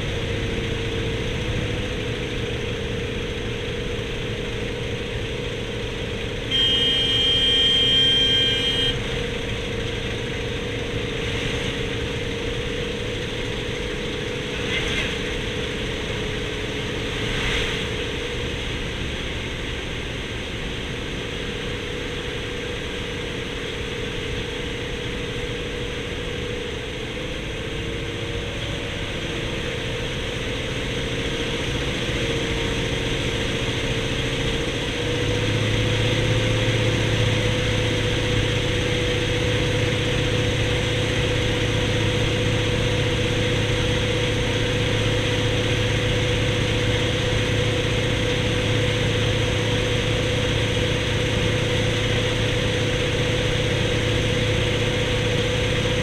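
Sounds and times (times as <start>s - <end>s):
radial aircraft engine running: 0.0s - 56.0s.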